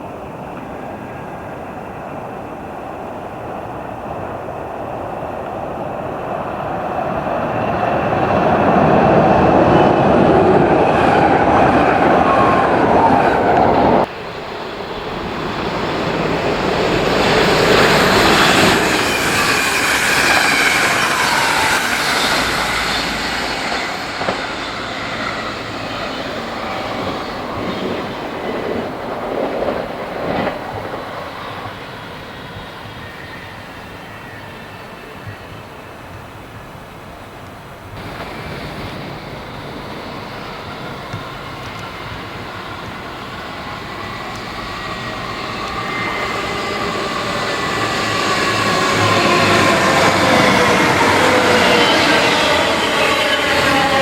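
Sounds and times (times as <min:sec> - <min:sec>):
train wheel squeal: 0:00.0 - 0:36.8, 0:38.0 - 0:54.0
train running noise: 0:00.0 - 0:54.0.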